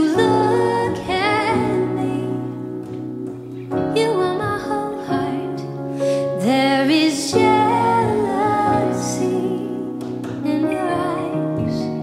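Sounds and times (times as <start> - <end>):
woman singing: 0.0 - 3.0, 3.8 - 12.0
soft band accompaniment: 0.0 - 12.0.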